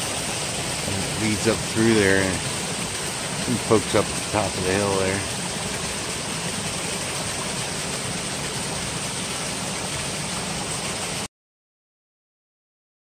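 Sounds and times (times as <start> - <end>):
stream rushing over rocks: 0.0 - 11.3.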